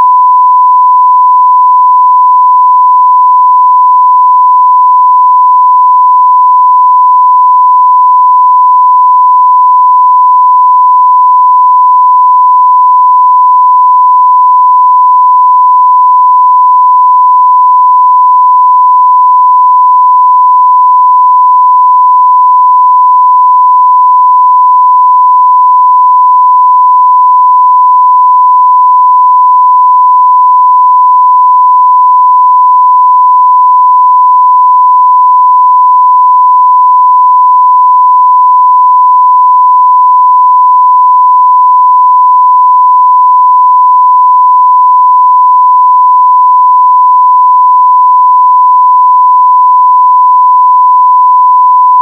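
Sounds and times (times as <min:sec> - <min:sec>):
sine wave test tone: 0:00.0 - 0:52.0.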